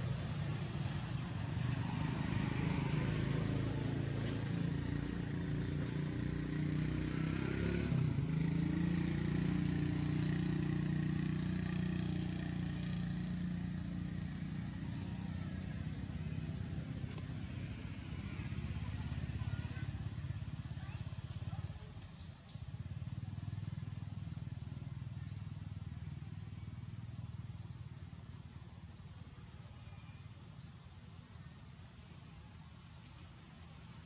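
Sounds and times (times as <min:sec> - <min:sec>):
vehicle engine running: 0:00.0 - 0:29.5.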